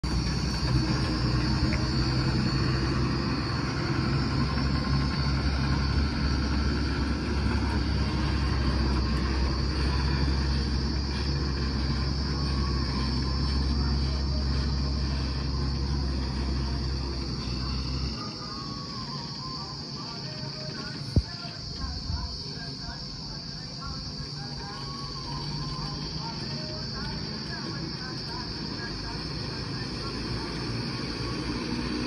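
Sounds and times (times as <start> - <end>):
diesel truck engine rumbling: 0.0 - 32.0.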